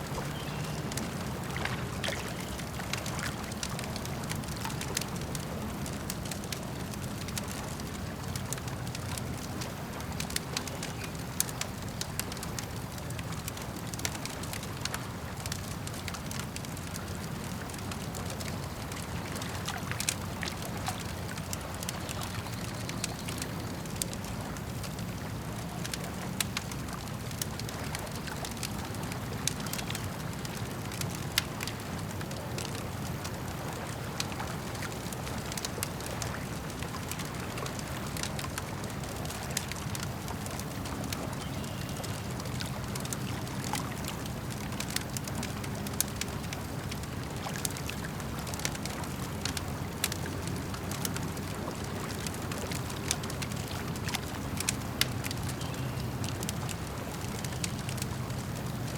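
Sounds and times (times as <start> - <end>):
lake water lapping: 0.0 - 12.9, 13.6 - 58.9
campfire crackling: 0.0 - 58.9.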